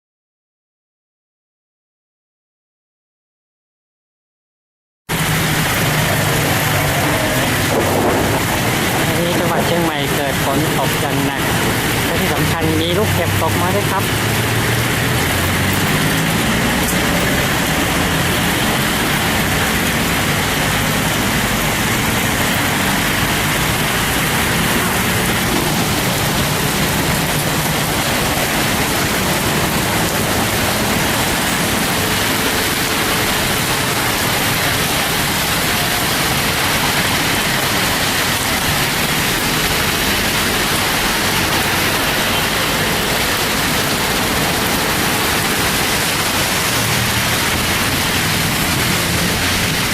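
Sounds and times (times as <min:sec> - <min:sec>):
heavy rain pouring: 0:05.1 - 0:49.9.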